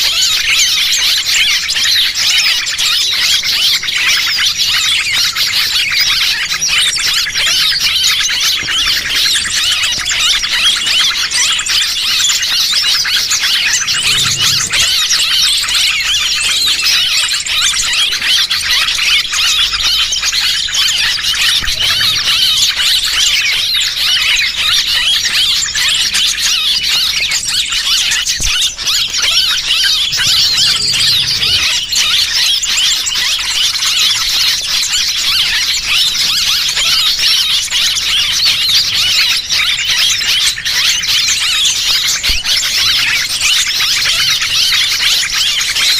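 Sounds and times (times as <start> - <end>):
small birds chirping and twittering: 0.0 - 45.9.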